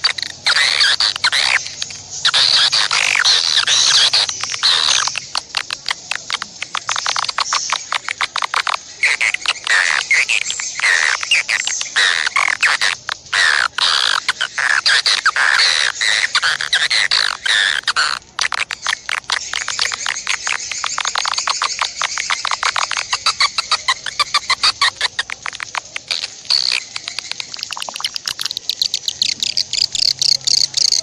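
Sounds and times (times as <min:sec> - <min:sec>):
songbird chattering and whistling: 0:00.0 - 0:31.0.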